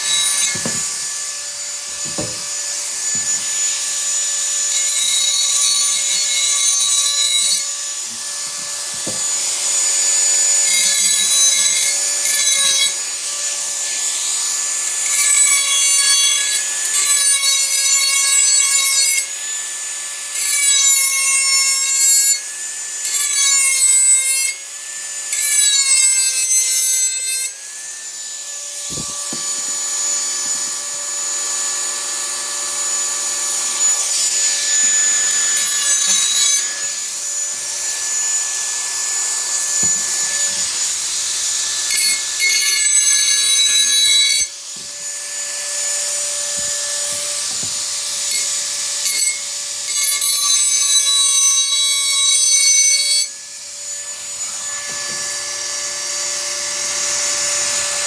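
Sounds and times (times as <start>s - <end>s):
grinding bit scraping metal: 0.0s - 58.0s
rotary tool whining: 0.0s - 58.0s.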